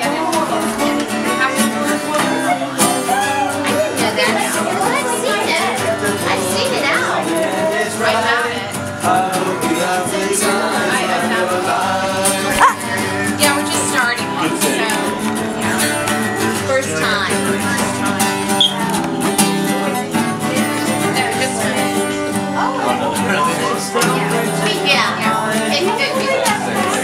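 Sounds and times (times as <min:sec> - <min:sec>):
acoustic guitars strummed: 0:00.0 - 0:27.0
voices singing: 0:00.0 - 0:27.0.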